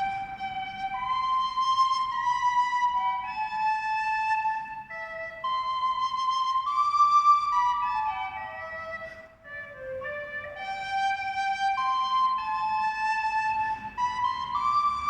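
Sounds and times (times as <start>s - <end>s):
slow flute-like melody: 0.0s - 15.0s.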